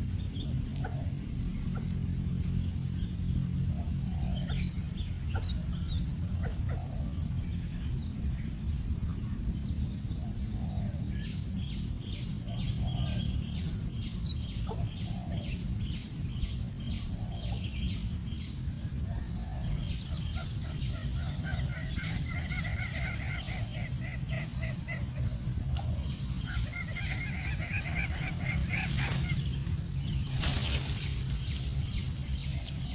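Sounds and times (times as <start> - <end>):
steady low rumble: 0.0 - 32.9.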